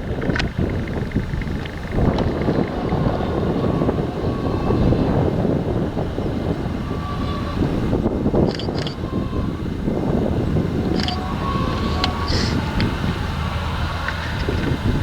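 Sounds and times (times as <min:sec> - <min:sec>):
harvesting machinery drone: 0:00.0 - 0:15.0.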